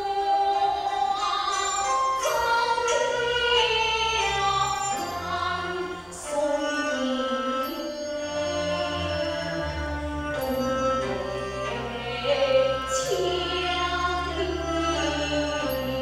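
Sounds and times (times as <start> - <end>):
instrumental accompaniment: 0.0 - 16.0
opera duet singing: 0.0 - 16.0.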